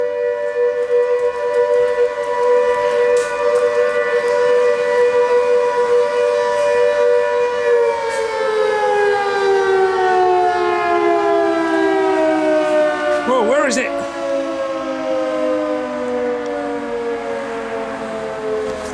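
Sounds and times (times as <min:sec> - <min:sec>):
fire station siren: 0:00.0 - 0:18.9.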